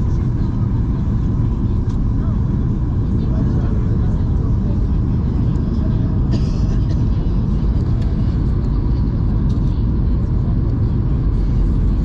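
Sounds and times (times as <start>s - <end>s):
aircraft engines: 0.0s - 12.0s.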